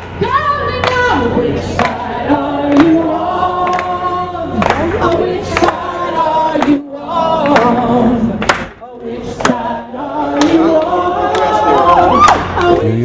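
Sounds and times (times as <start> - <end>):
choir singing held notes: 1.1 - 13.0.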